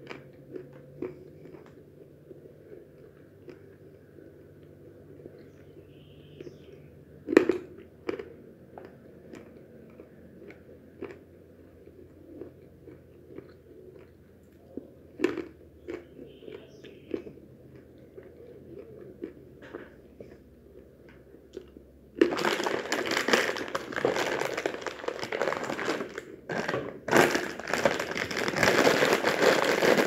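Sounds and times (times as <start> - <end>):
crisp chewing crunches: 0.0 - 30.0.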